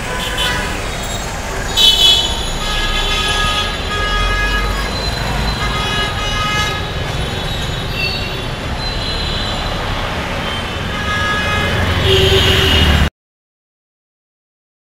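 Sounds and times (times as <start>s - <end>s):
city road traffic rumble: 0.0s - 13.1s.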